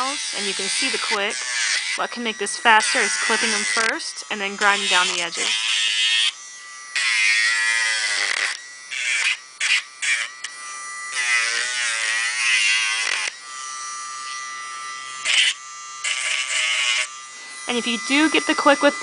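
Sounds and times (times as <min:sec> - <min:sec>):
gritty rasp of nail grinding: 0:00.0 - 0:19.0
rotary tool whining: 0:00.0 - 0:19.0.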